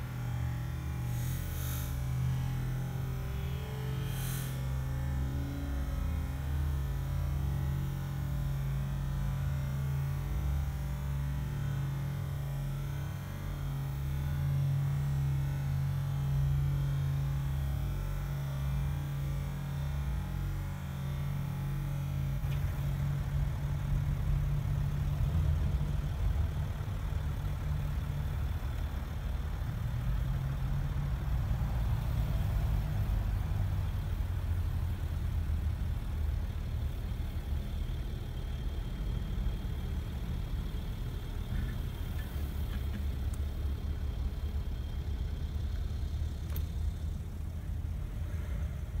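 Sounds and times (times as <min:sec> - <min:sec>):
car engine low rumble: 0:00.0 - 0:49.0.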